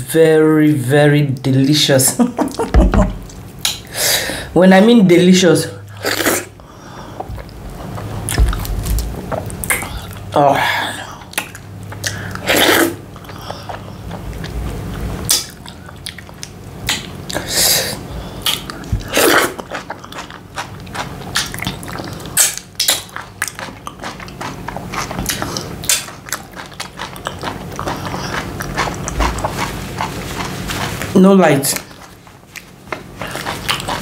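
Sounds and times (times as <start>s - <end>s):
wet chewing and mouth sounds: 5.9s - 34.0s.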